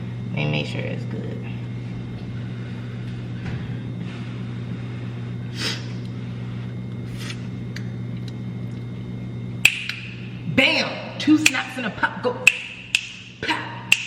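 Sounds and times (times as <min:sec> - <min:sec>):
appliance motor humming: 0:00.0 - 0:14.0.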